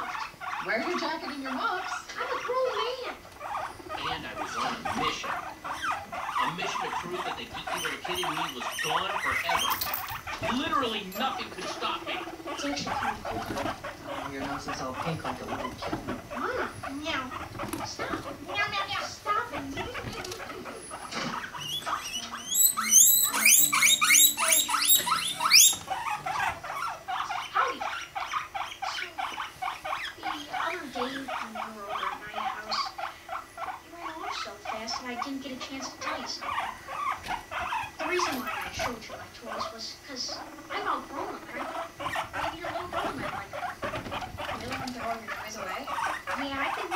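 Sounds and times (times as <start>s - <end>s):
guinea pigs squeaking and chirping: 0.0s - 46.9s.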